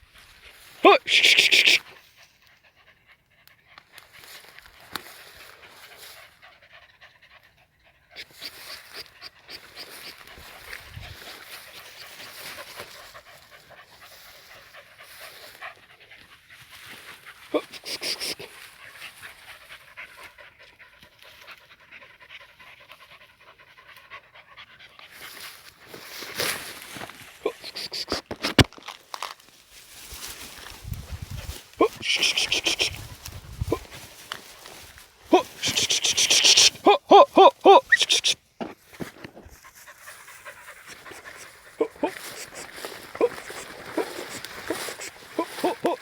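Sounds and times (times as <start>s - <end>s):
dog panting: 1.5s - 4.4s, 5.1s - 26.2s, 31.1s - 37.1s, 39.0s - 46.0s.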